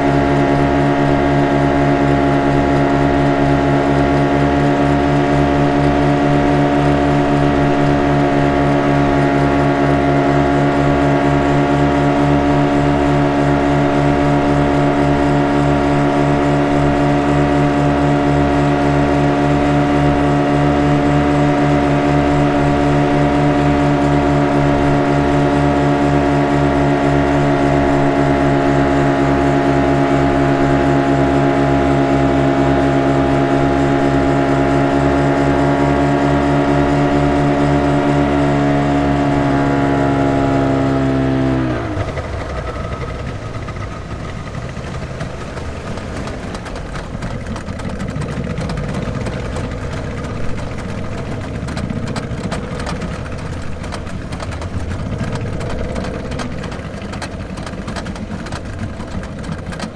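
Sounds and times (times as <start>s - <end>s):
speed boat engine droning: 0.0s - 59.9s.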